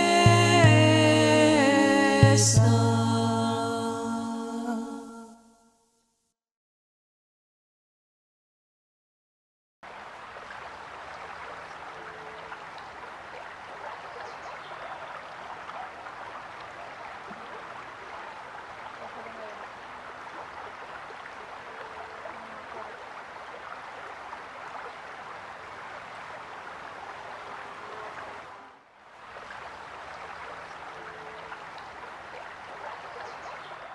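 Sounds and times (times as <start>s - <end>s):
rushing stream water: 0.0s - 4.6s, 9.8s - 33.9s.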